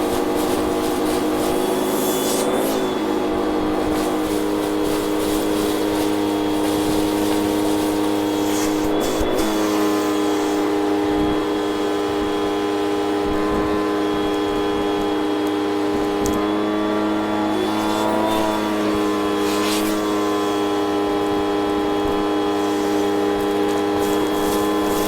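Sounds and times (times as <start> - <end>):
vacuum cleaner motor whine: 0.0 - 25.0.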